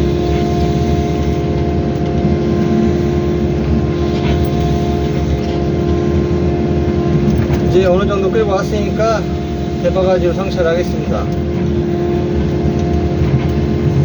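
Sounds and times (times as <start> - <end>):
excavator diesel engine running: 0.0 - 14.0
hydraulic whine: 0.0 - 14.0.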